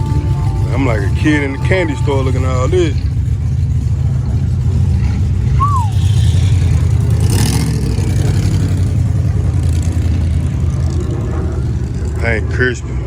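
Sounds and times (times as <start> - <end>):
car engine rumbling: 0.0 - 12.2.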